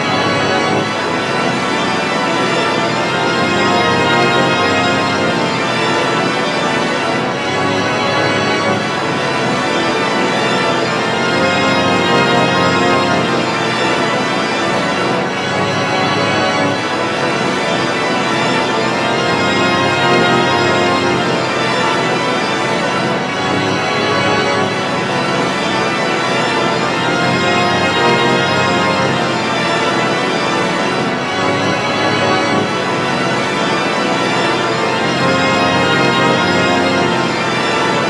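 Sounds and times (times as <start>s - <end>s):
sustained synthesized organ chord: 0.0s - 38.0s.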